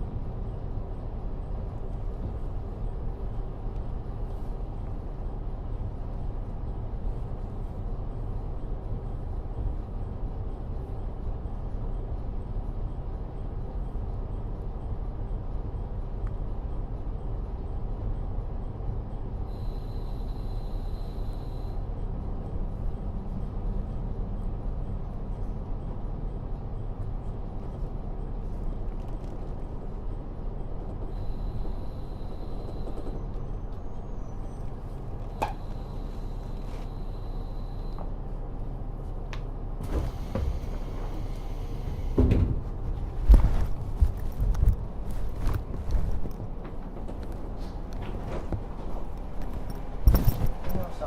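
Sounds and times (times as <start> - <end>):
train engine and wheels rumbling: 0.0 - 51.0.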